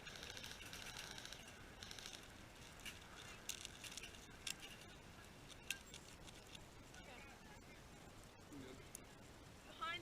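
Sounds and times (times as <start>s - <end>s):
faint rustling: 0.0s - 9.3s.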